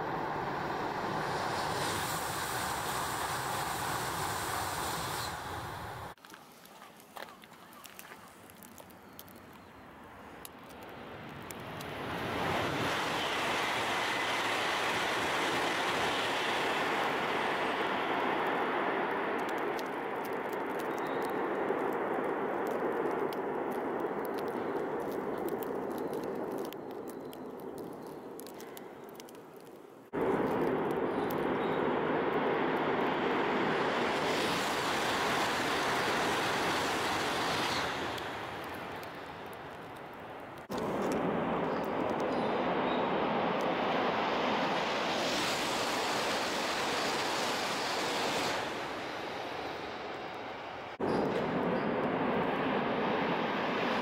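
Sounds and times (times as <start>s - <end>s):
high-speed train roaring: 0.0s - 6.2s, 11.0s - 26.8s, 30.1s - 54.0s.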